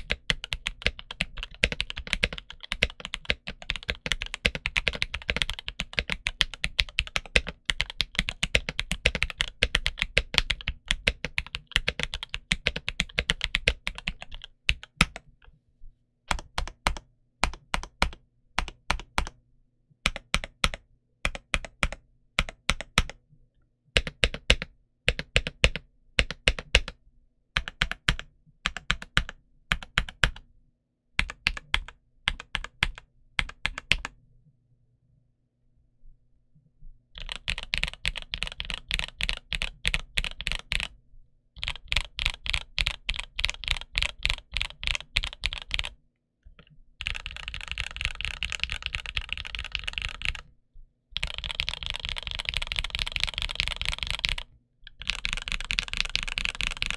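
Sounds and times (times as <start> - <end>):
mechanical keyboard typing: 0.0 - 15.3, 16.3 - 19.4, 20.1 - 23.2, 24.0 - 27.0, 27.6 - 30.4, 31.2 - 34.2, 37.2 - 41.0, 41.6 - 46.0, 47.0 - 50.5, 51.2 - 56.9.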